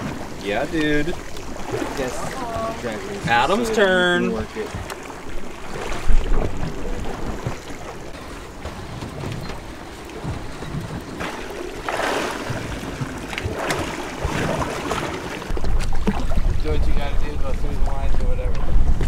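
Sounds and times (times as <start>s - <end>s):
water sloshing around boat: 0.0s - 19.0s
wind buffeting microphone: 0.0s - 19.0s.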